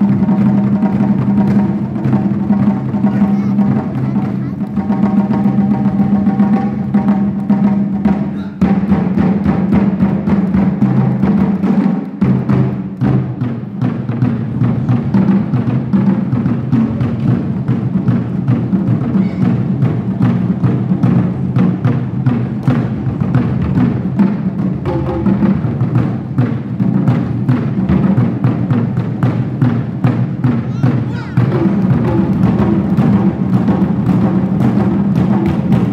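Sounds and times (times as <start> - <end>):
drum ensemble fast rhythm: 0.0 - 35.9.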